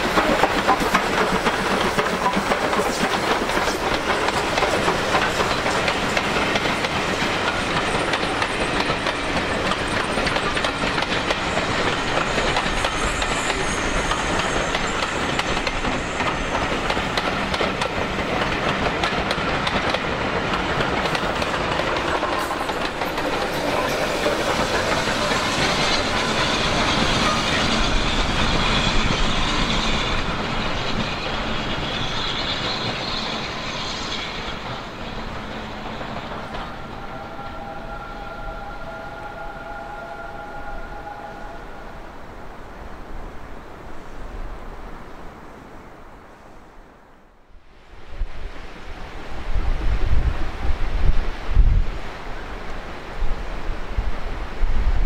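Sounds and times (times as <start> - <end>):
train rumbling and clattering past: 0.0 - 55.0.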